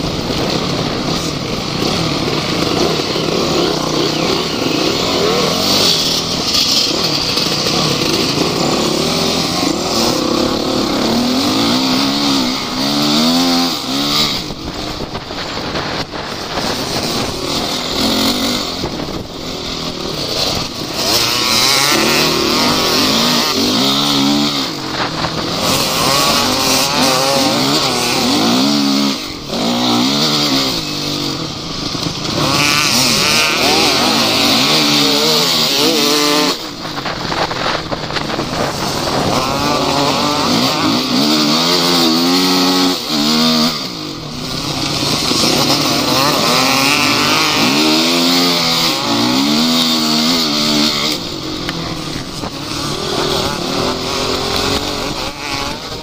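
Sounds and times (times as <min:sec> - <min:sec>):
off-road vehicle engine revving: 0:00.0 - 0:56.0
rattle over rough ground: 0:00.0 - 0:56.0.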